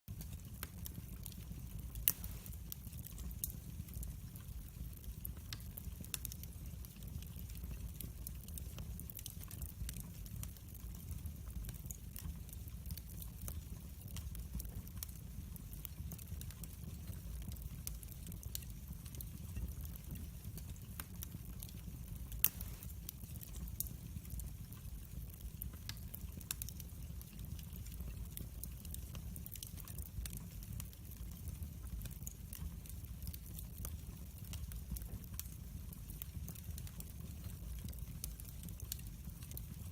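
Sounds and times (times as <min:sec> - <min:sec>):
firewood crackling and popping: 0:00.1 - 0:39.9
low rumble of flames: 0:00.1 - 0:39.9.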